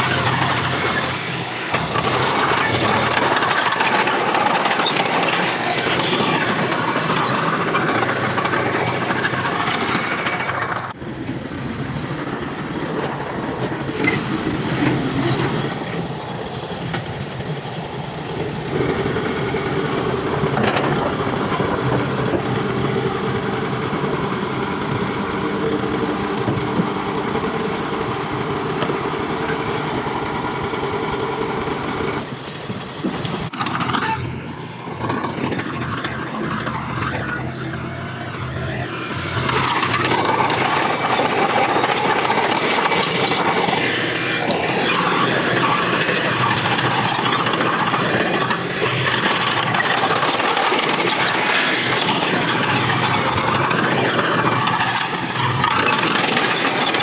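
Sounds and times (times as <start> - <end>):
bulldozer engine running: 0.0 - 57.0.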